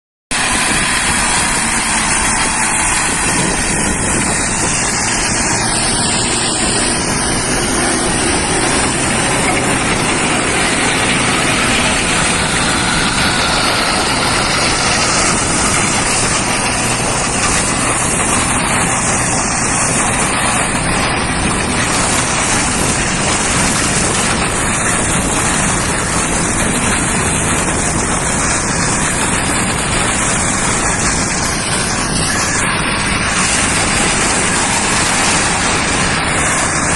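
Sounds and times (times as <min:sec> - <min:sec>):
flail shredder rushing: 0:00.3 - 0:36.9
tractor engine hum: 0:00.3 - 0:36.9.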